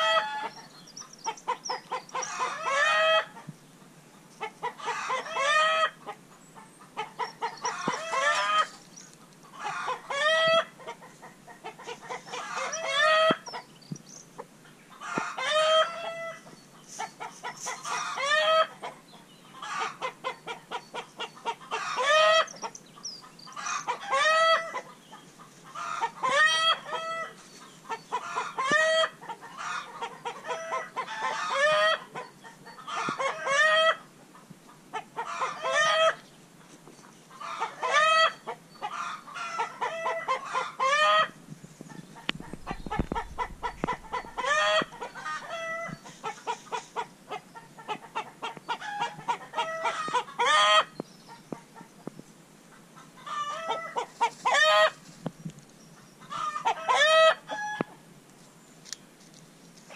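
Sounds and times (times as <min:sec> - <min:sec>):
chicken cackling: 0:00.0 - 0:03.5, 0:04.4 - 0:13.7, 0:14.4 - 0:36.3, 0:37.3 - 0:51.9, 0:52.7 - 0:55.1, 0:56.0 - 0:58.0.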